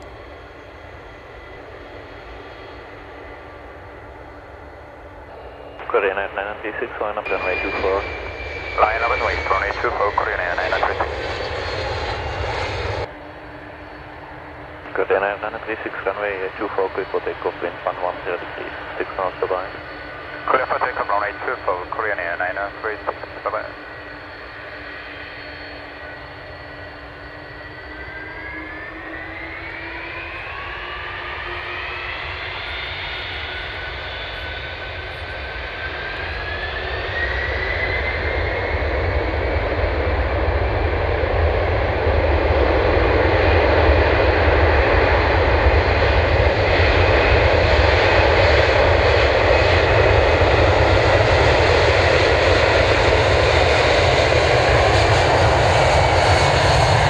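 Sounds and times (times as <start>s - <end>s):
jet engine whine: 0.0s - 57.0s
jet roar: 0.0s - 57.0s.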